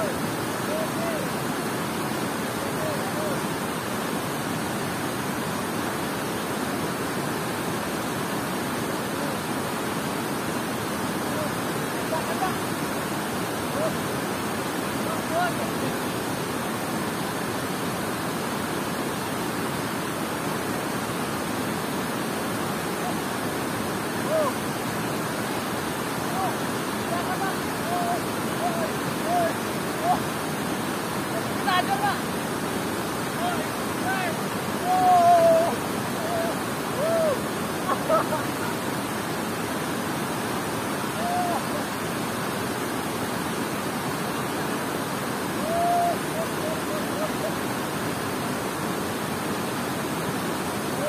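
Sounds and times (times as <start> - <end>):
water pouring over dam spillway: 0.0 - 51.0.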